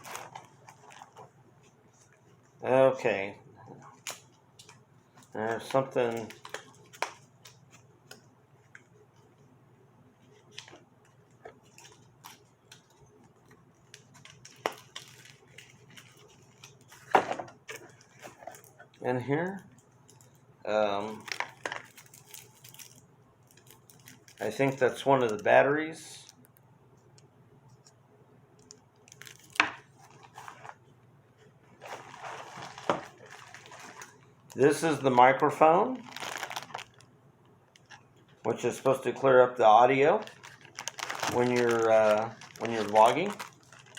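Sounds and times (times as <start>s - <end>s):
packaging rustling: 0.0s - 2.4s, 3.9s - 9.4s, 10.3s - 19.0s, 21.0s - 25.6s, 28.6s - 37.1s, 37.7s - 43.9s
faint steady hum: 0.0s - 43.9s.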